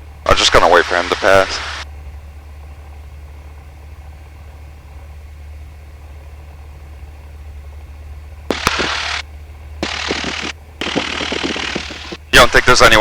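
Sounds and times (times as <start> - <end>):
aircraft piston engine idling: 0.0 - 13.0.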